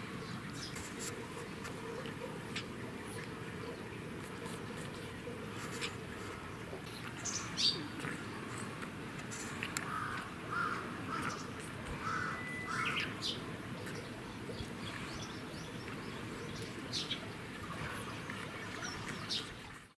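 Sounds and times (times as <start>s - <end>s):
birds calling: 0.0s - 19.8s
low background noise: 0.0s - 19.9s.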